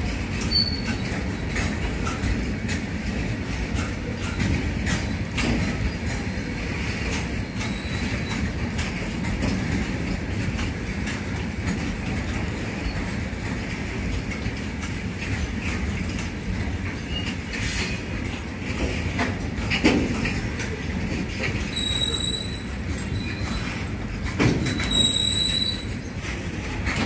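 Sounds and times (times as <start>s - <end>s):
train wheels rumbling on rails: 0.0s - 27.0s
wheels clicking over rail joints: 0.0s - 27.0s.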